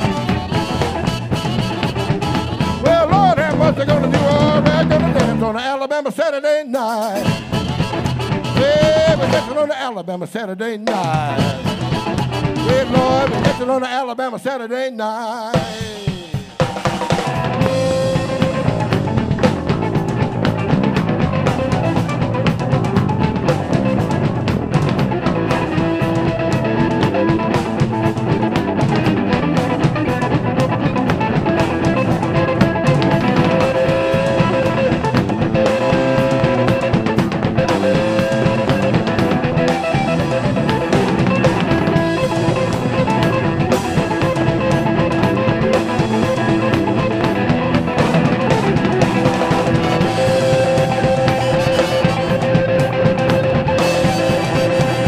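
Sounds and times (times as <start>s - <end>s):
bass guitar: 0.0s - 5.7s, 7.0s - 9.7s, 10.8s - 13.8s, 15.5s - 55.0s
drum kit beat: 0.0s - 5.8s, 6.7s - 13.9s, 15.5s - 55.0s
blues guitar lead notes: 0.0s - 55.0s.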